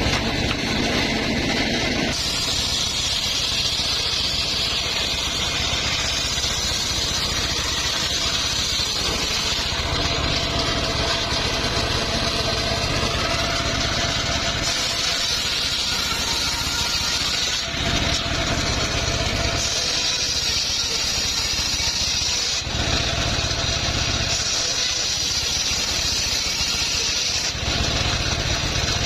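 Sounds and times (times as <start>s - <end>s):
engine-driven circular saw running: 0.0s - 29.0s.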